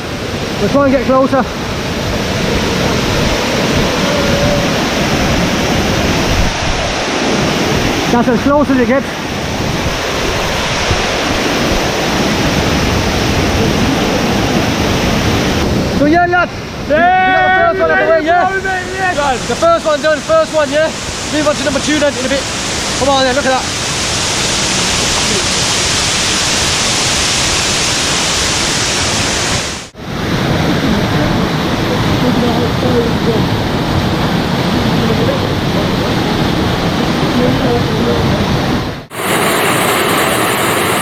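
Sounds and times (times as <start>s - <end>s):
waterfall rushing: 0.0s - 15.9s, 19.1s - 37.4s, 38.5s - 41.0s.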